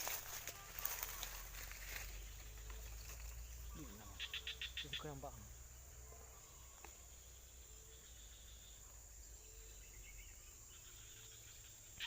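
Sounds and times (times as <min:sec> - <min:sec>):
faint bird chirps: 0:00.0 - 0:12.0
faint insect drone: 0:00.0 - 0:12.0.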